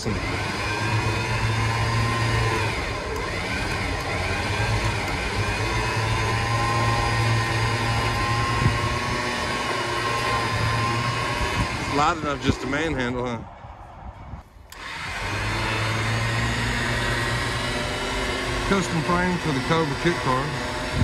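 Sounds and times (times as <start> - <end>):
engine humming: 0.0 - 21.0
wavering whine: 0.0 - 21.0.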